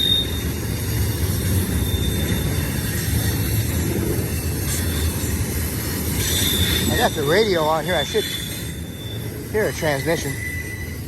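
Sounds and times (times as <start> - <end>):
freight train rumbling: 0.0 - 11.0
train wheel squeal: 0.0 - 11.0.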